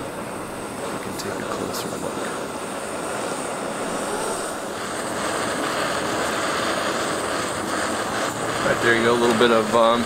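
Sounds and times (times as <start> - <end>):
gas stove hissing: 0.0 - 10.0.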